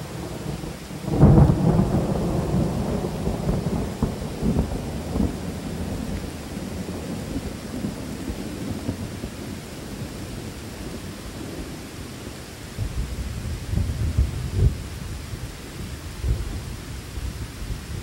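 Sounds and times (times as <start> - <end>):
steady rain: 0.0 - 18.0
thunder rumble with crackles: 0.0 - 18.0.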